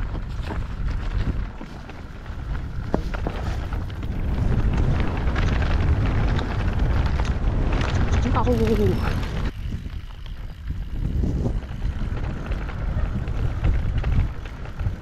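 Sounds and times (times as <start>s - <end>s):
mountain bike rattling on stony trail: 0.0s - 15.0s
wind buffeting microphone: 0.0s - 15.0s.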